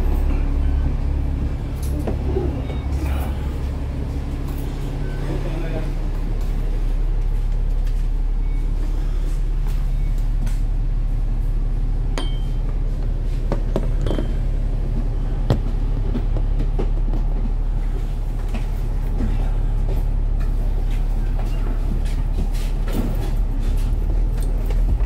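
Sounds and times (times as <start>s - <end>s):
bus engine hum: 0.0s - 25.0s.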